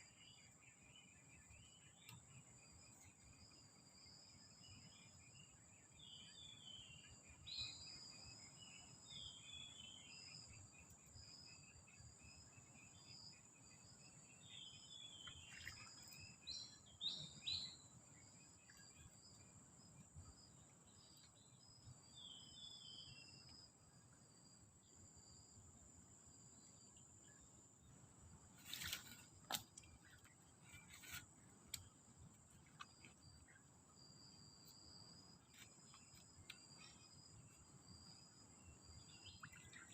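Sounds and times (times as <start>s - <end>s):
pulsing insect chirp: 0.0s - 39.9s.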